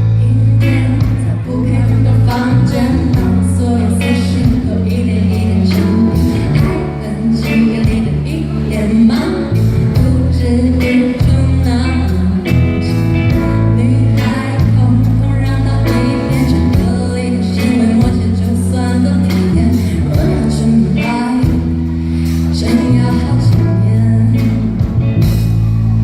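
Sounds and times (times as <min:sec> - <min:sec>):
person singing: 0:00.0 - 0:26.0
pop band accompaniment: 0:00.0 - 0:26.0.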